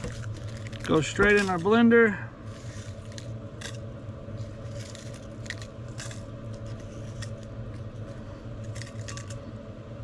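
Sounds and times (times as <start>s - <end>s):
dried chiles clicking and rustling: 0.0s - 1.9s, 2.6s - 9.4s
low hum: 0.0s - 10.0s.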